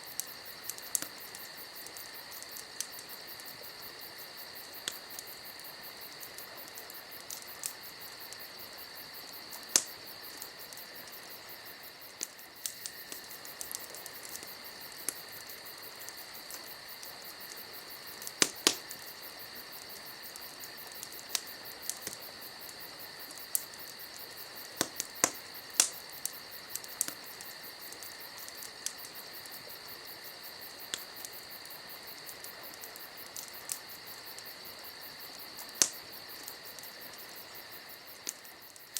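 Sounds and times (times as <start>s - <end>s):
campfire crackling and popping: 0.0s - 38.9s
insects chirring: 0.0s - 38.9s.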